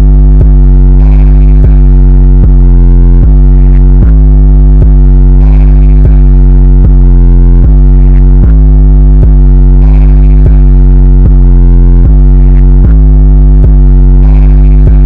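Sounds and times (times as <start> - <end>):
distorted bass-heavy synthesizer music: 0.0 - 15.0.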